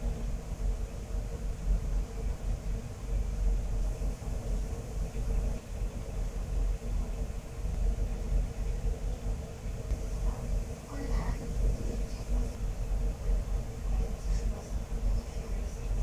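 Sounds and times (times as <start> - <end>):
faint steady hum: 0.0 - 16.0
low uneven rumble: 0.0 - 16.0.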